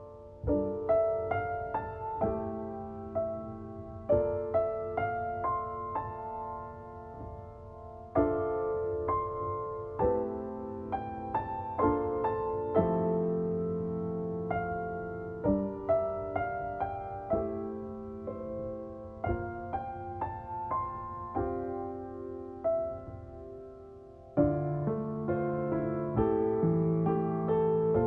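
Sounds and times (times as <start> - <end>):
piano playing slow chords: 0.0 - 28.0.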